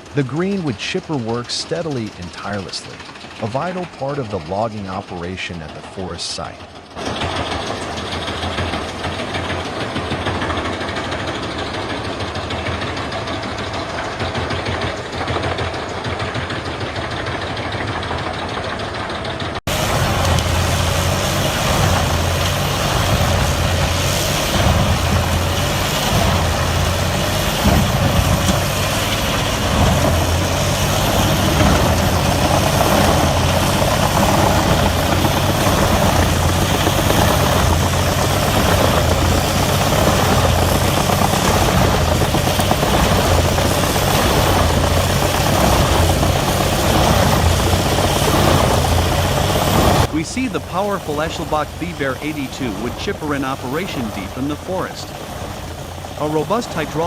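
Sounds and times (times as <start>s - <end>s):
engine hum: 0.0s - 57.0s.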